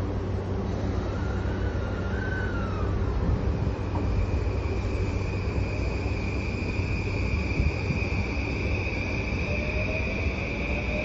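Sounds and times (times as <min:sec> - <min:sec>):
high motor whine: 0:00.0 - 0:11.0
train wheels rumbling on track: 0:00.0 - 0:11.0
lower whine rising in pitch: 0:00.9 - 0:11.0.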